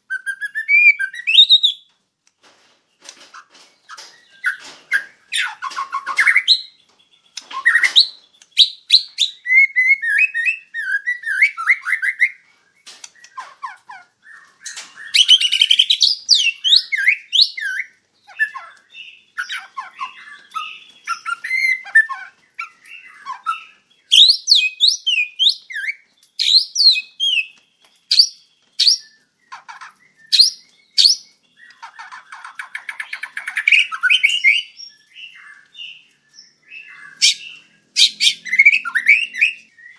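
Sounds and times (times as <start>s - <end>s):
bird singing whistled notes: 0.0s - 1.9s, 3.9s - 13.6s, 14.2s - 39.9s.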